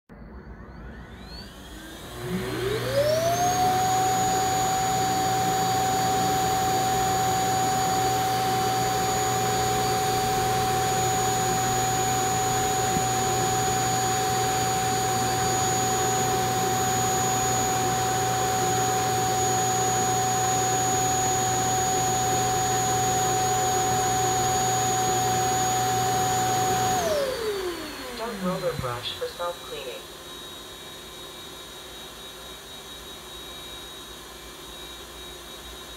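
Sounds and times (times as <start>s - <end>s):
vacuum base suction motor whine: 0.1s - 35.9s.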